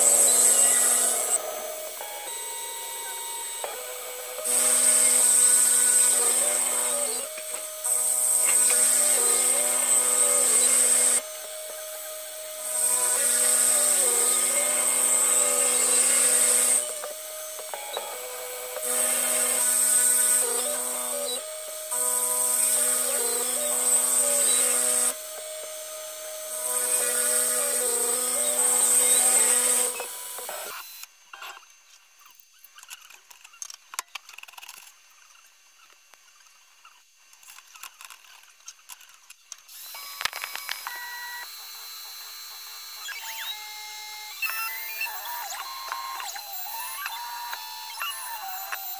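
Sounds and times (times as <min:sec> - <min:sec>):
cutter hissing through wood: 0:00.0 - 0:31.1, 0:39.7 - 0:48.9
milling machine whine: 0:00.0 - 0:31.1, 0:39.7 - 0:48.9.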